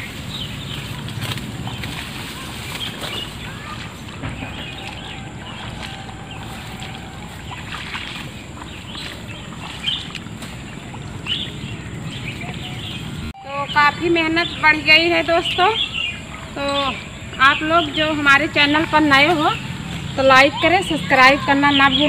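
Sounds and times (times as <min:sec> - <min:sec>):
water sloshing from wading: 0:00.0 - 0:13.4, 0:14.2 - 0:22.0
birds chirping: 0:00.0 - 0:22.0.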